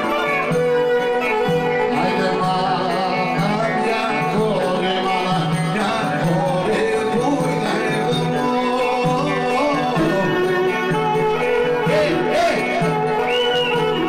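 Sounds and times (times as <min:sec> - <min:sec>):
live folk dance band music: 0:00.0 - 0:14.0.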